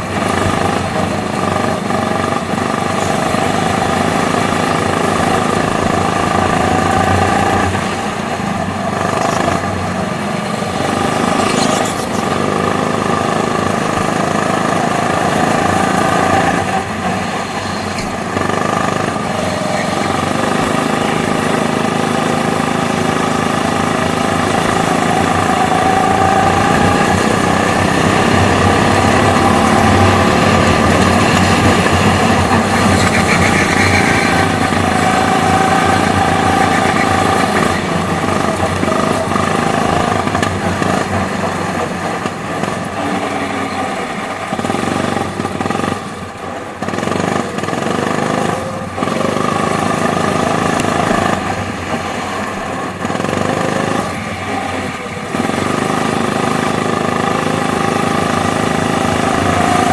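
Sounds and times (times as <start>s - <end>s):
go-kart engine running hard: 0.0s - 59.9s.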